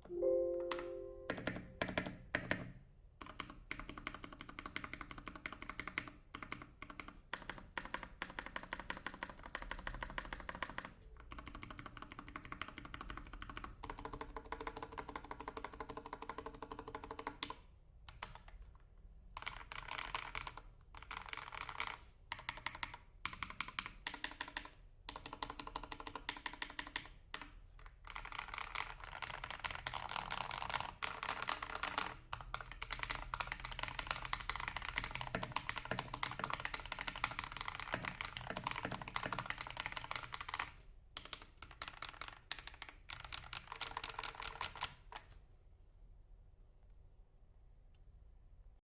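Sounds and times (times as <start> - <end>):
mechanical keyboard typing: 0.1 - 18.6, 19.4 - 45.3.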